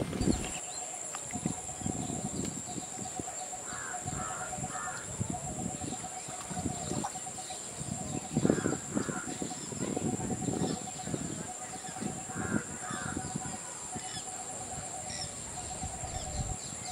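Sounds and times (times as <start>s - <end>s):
birds calling: 0.0s - 16.9s.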